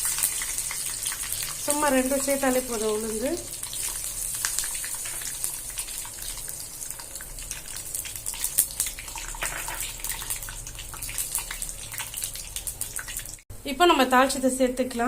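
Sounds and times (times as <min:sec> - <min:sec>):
seeds sizzling in hot oil: 0:00.0 - 0:13.5.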